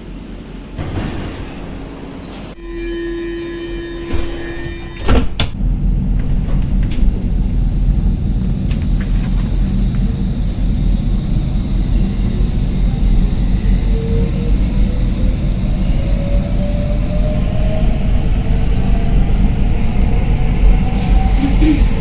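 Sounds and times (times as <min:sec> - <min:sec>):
train running rumble: 0:00.0 - 0:22.0.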